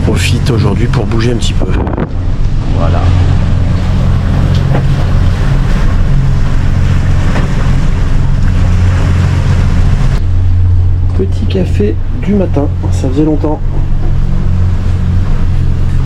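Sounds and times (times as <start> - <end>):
boat engine droning: 0.0 - 16.0
water noise: 0.0 - 16.0
wind: 0.0 - 16.0.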